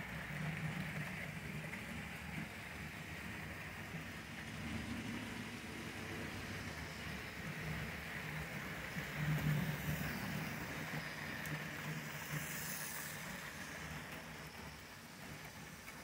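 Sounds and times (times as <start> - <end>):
wheels rattling on track: 0.0 - 16.0.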